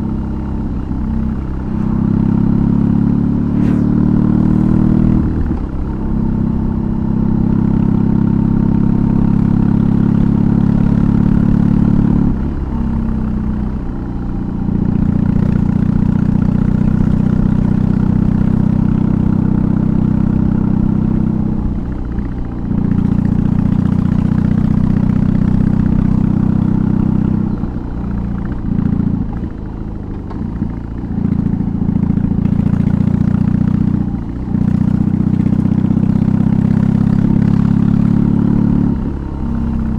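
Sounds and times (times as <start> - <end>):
motorcycle engine running under load: 0.0 - 39.9.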